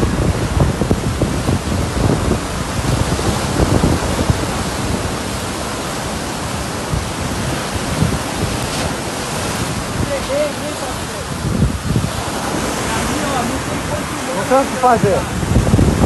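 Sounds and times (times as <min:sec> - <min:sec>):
heavy surf breaking on rocks: 0:00.0 - 0:16.0
wind buffeting microphone: 0:00.0 - 0:16.0.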